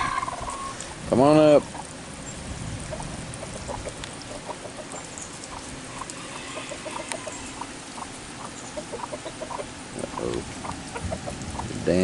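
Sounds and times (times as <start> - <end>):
chickens clucking: 0.0 - 2.0, 2.8 - 11.8.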